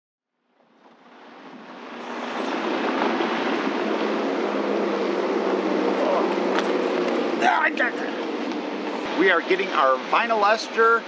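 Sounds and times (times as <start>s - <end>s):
engine running with even hum: 0.4s - 11.0s.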